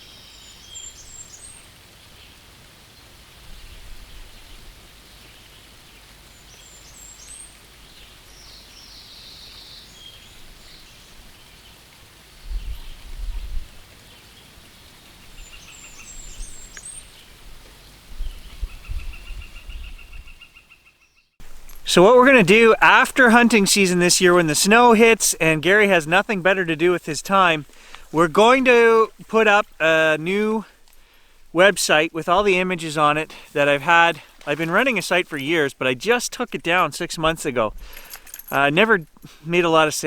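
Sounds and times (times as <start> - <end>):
light rain hissing: 0.0 - 18.6, 21.4 - 40.0
songbirds chirping: 0.0 - 40.0.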